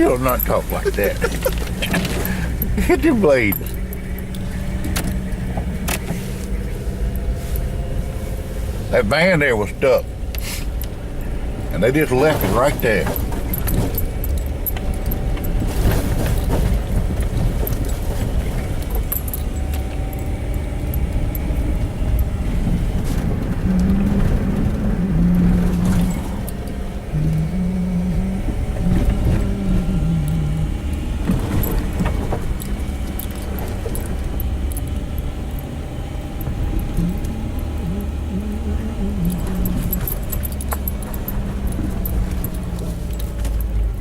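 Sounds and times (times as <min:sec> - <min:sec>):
light jingling rattle: 0:00.0 - 0:08.6, 0:10.0 - 0:23.0, 0:28.2 - 0:44.0
low held notes: 0:00.0 - 0:44.0
truck engine and road rumble: 0:00.0 - 0:44.0.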